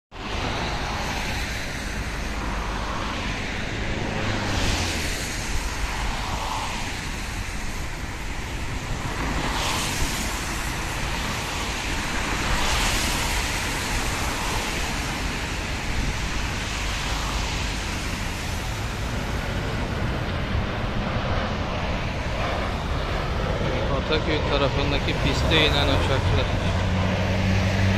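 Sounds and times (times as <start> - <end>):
road traffic rush: 0.1 - 27.9
cars swishing past: 0.2 - 27.9.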